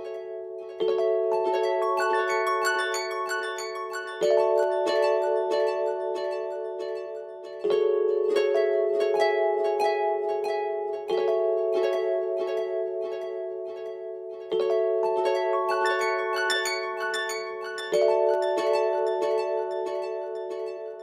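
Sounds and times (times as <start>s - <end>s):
plucked instrumental music: 0.0s - 21.0s.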